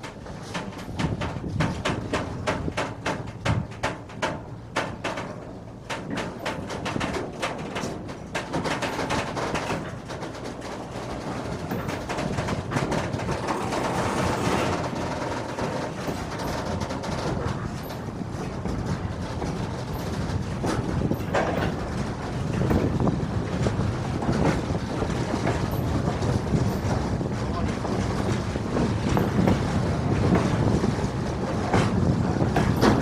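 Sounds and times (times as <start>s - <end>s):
train wheels rumbling on rails: 0.0s - 33.0s
wagon wheels clicking over track: 0.0s - 33.0s.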